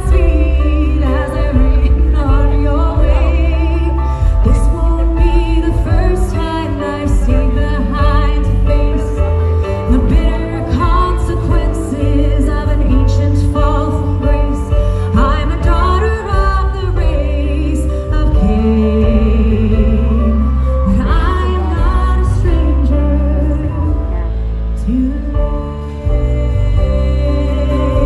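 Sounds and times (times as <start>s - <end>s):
live band with strong bass: 0.0s - 28.0s
woman singing with vibrato: 0.0s - 28.0s.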